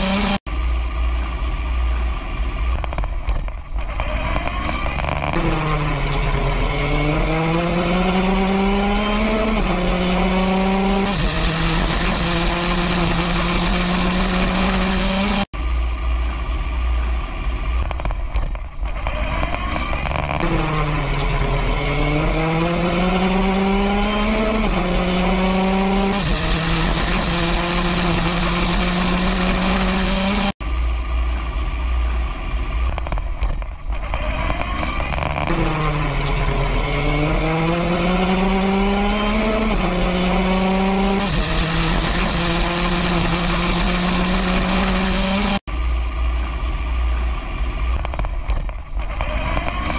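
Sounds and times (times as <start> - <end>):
race car engine: 0.0 - 49.9
road noise: 0.0 - 49.9.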